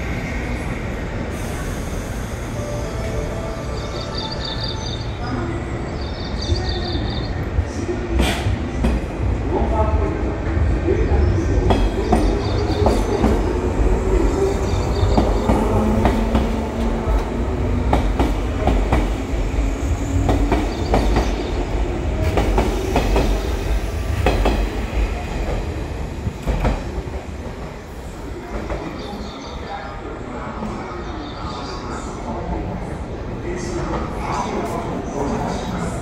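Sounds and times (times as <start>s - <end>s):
electric train rumbling: 0.0s - 36.0s.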